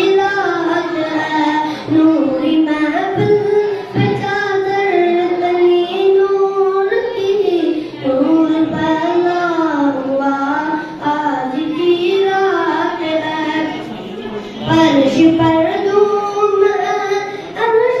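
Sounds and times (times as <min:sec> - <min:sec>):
boy singing into a microphone: 0:00.0 - 0:18.0.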